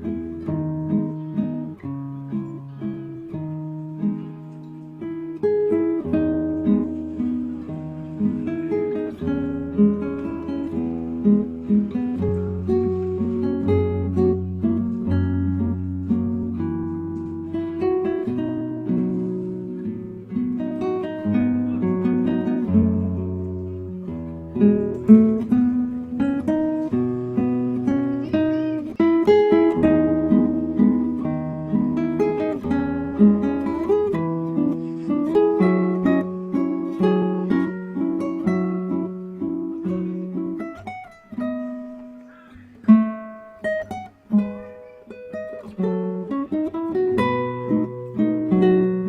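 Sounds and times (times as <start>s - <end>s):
acoustic guitar playing: 0.0s - 49.0s.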